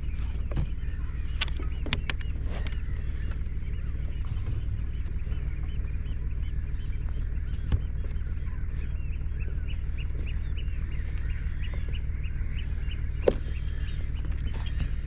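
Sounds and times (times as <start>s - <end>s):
birds calling in high notes: 0.0s - 15.0s
boat engine rumbling: 0.0s - 15.0s.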